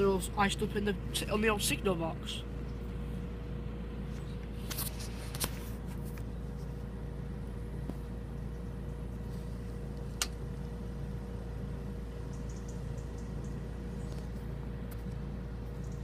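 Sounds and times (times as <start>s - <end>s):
faint steady hum: 0.0s - 16.0s
low engine rumble: 0.0s - 16.0s.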